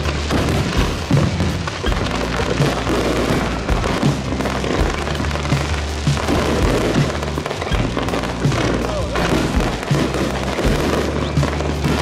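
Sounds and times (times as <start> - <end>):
fireworks crackling and bursting: 0.0 - 12.0
music playing: 0.0 - 12.0.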